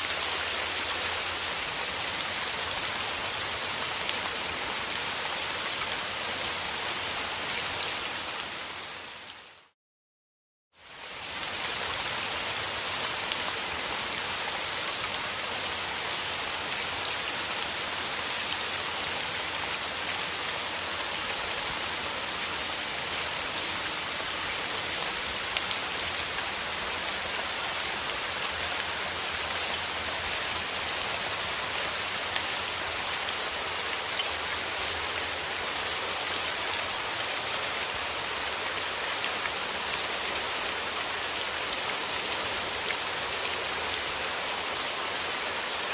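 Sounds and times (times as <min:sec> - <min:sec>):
steady rain falling: 0:00.0 - 0:09.8, 0:10.8 - 0:45.9.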